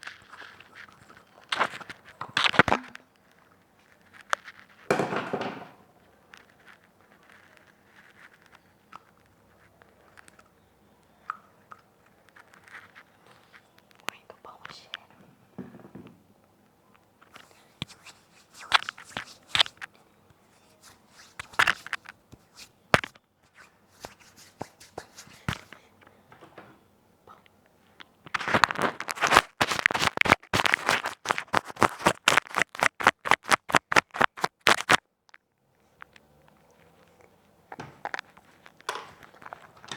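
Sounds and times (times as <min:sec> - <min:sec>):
crackling and clicking at microphone: 0:00.0 - 0:05.0, 0:06.0 - 0:15.2, 0:16.4 - 0:26.2, 0:27.3 - 0:39.9.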